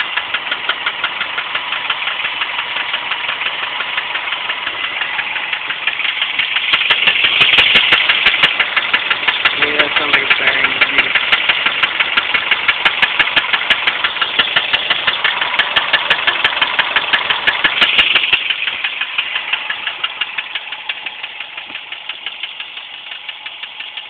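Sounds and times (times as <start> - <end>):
car engine idling rough: 0.0 - 24.0
regular clicking engine knock: 0.0 - 24.0.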